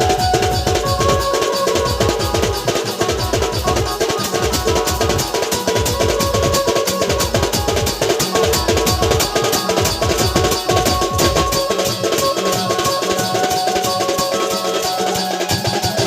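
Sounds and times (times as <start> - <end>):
held melody line: 0.0 - 16.0
rapid dense drumming: 0.0 - 16.0.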